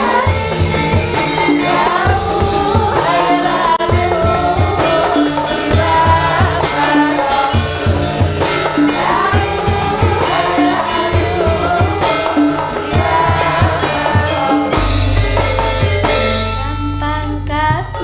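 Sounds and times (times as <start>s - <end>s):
woman singing: 0.0s - 0.6s, 1.5s - 7.8s, 8.8s - 14.9s, 15.8s - 18.0s
gamelan music: 0.0s - 18.0s.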